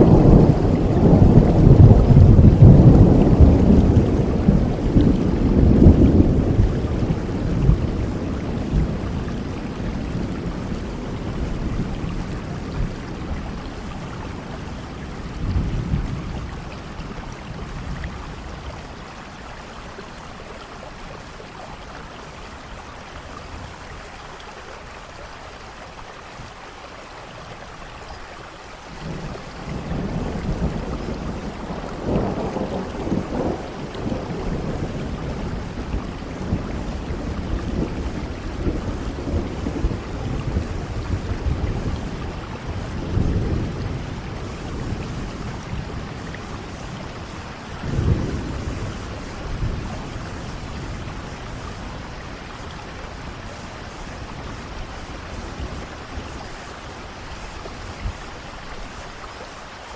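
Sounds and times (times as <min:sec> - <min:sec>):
rolling thunder: 0:00.0 - 0:19.2, 0:28.8 - 0:59.0
rain hissing: 0:00.0 - 0:59.9.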